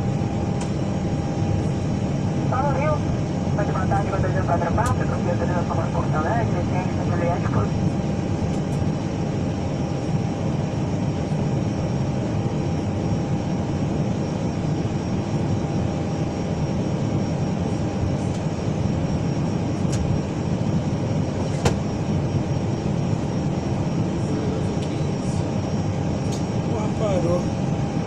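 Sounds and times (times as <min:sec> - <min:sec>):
jet engines idling: 0:00.0 - 0:28.0.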